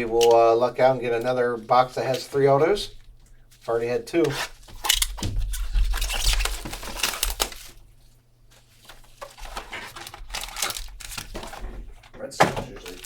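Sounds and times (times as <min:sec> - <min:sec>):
card stock rustling: 0:00.0 - 0:13.0
plastic wrap crinkling: 0:01.2 - 0:13.0.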